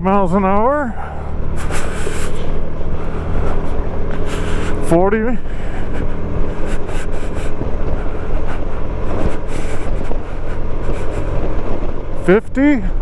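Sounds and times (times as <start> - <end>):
motorcycle running: 0.0 - 13.0
wind buffeting helmet microphone: 0.0 - 13.0.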